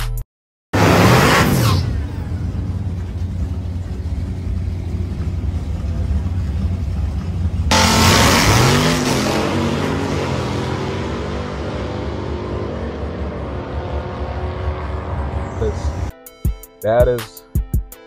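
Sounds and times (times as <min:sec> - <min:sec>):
car engine revving: 0:00.8 - 0:16.1.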